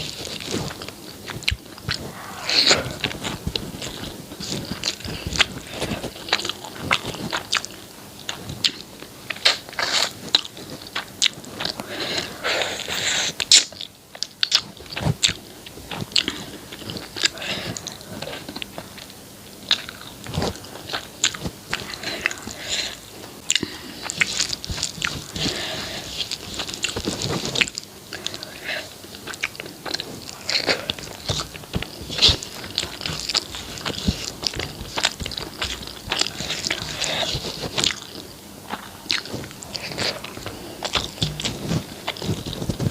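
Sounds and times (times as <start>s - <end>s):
person chewing and biting food: 0.0s - 42.9s.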